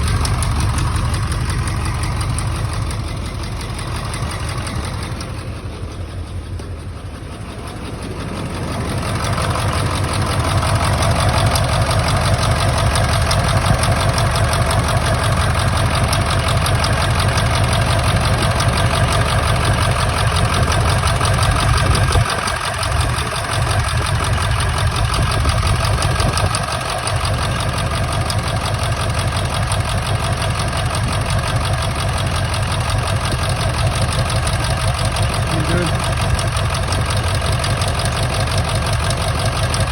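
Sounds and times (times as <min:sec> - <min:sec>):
diesel truck engine idling rough: 0:00.0 - 0:39.9.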